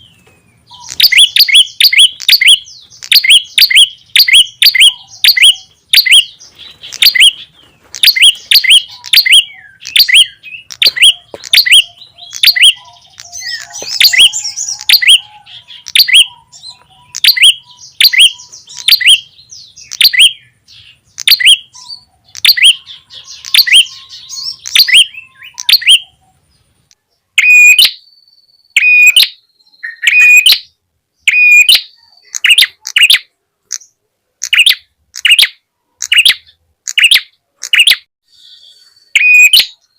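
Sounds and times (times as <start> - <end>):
harsh bird calls: 0.0 - 39.9
bird chirps falling in pitch: 0.7 - 26.2, 27.4 - 33.3, 34.6 - 39.9.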